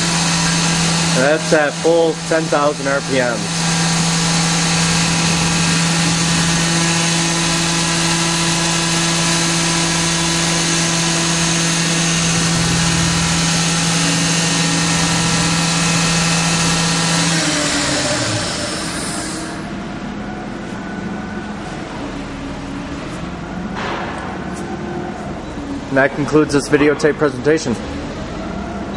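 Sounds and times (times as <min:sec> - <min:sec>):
machine spindle whine: 0:00.0 - 0:28.9.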